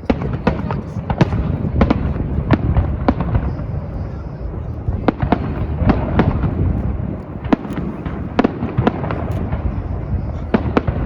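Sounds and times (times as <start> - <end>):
fireworks cracks: 0.0 - 11.0
fireworks rumble: 0.0 - 11.0.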